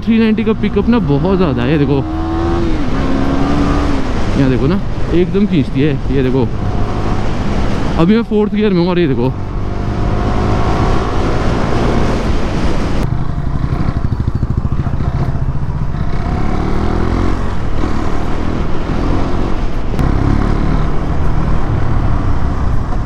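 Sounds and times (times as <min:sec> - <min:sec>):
motorcycle engine running: 0:00.0 - 0:05.4, 0:09.2 - 0:23.0.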